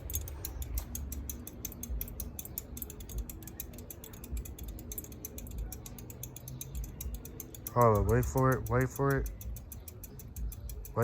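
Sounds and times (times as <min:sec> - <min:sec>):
ceiling fan rapid clicking: 0:00.0 - 0:11.0.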